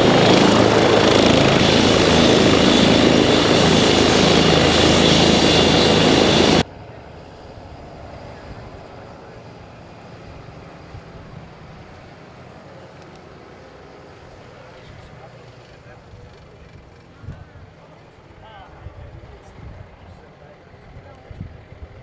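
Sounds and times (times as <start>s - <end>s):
helicopter rotor noise: 0.0s - 22.0s
helicopter turbine whine: 0.0s - 22.0s.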